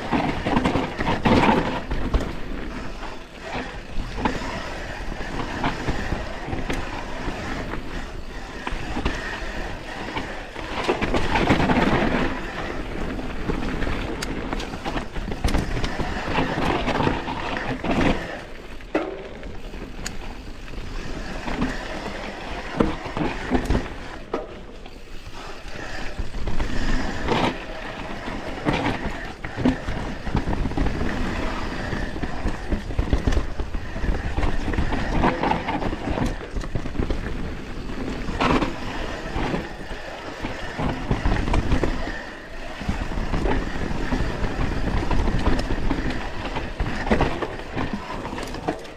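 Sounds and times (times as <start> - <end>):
tyres rumbling over dirt and rock: 0.0 - 48.9.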